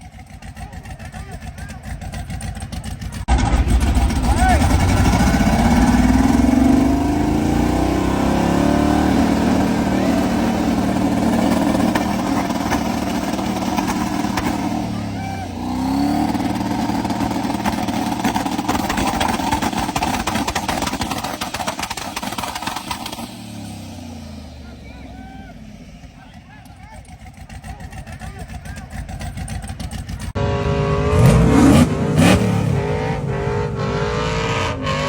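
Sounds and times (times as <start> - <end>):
car engine under way: 0.0 - 35.0.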